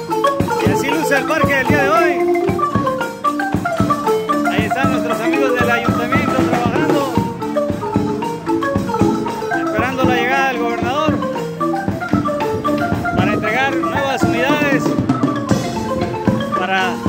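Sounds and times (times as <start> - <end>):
marimba played with mallets: 0.0 - 17.0.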